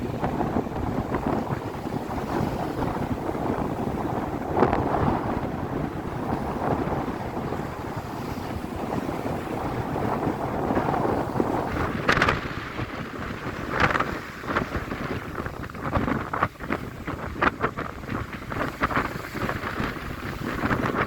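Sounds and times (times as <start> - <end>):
waves washing on shore: 0.0 - 21.0
wind buffeting microphone: 0.0 - 21.0.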